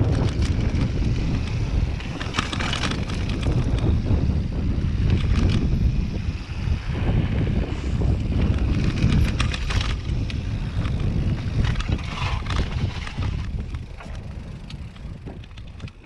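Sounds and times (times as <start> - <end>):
bike clicks and knocks: 0.0 - 6.7, 8.0 - 16.0
tyres on dirt and gravel: 0.0 - 16.0
wind buffeting microphone: 0.0 - 16.0.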